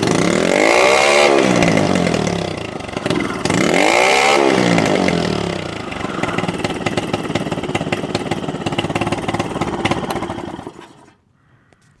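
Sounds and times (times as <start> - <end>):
outboard motor idling: 0.0 - 11.2.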